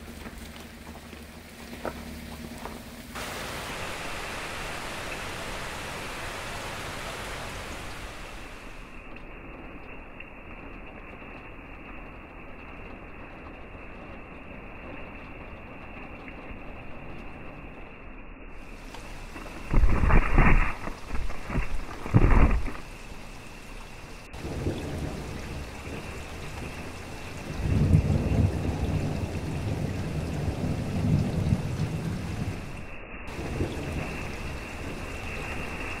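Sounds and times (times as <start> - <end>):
rain falling on foliage: 0.0 - 36.0.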